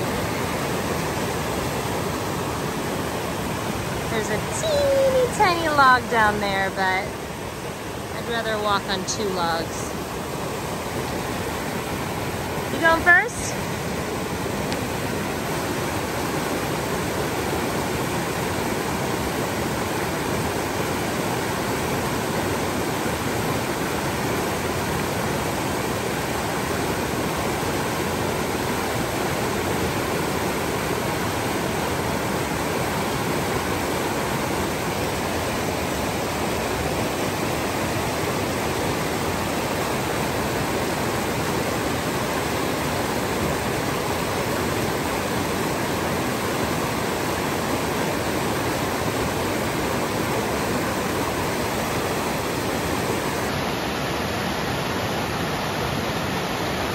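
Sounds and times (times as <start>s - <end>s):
river rushing over rocks: 0.0s - 56.9s.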